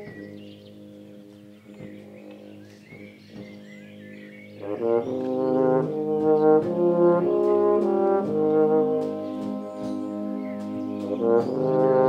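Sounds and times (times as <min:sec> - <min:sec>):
euphonium solo melody: 0:00.0 - 0:12.0.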